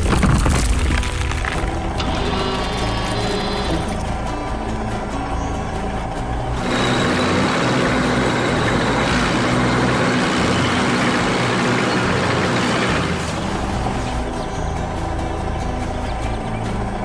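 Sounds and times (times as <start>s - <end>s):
heavy vehicle engine: 1.4s - 17.0s.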